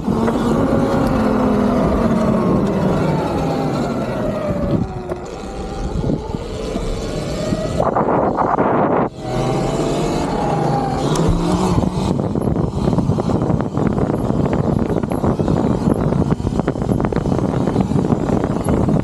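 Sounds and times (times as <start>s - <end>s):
electric motor whine: 0.0s - 19.0s
loud rushing wind gust: 0.0s - 19.0s
wind and road noise: 0.0s - 19.0s.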